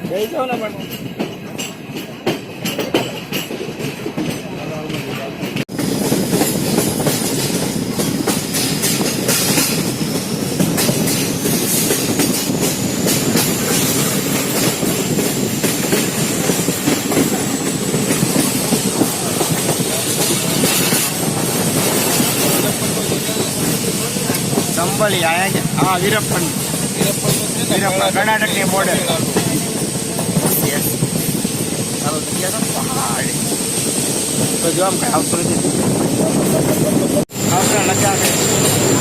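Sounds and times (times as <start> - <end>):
train rumbling on rails: 0.0 - 39.0.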